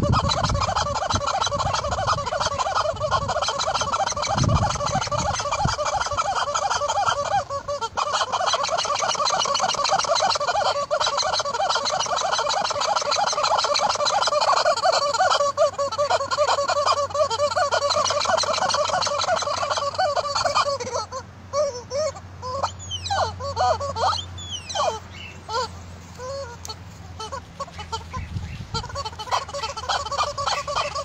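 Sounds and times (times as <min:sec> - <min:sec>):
rubber chicken toy squawking: 0:00.0 - 0:31.0.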